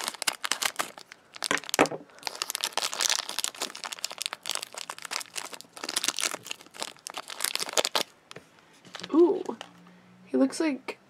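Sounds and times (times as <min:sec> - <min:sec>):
plastic wrapper crinkling and tearing: 0:00.0 - 0:08.2, 0:08.9 - 0:09.8.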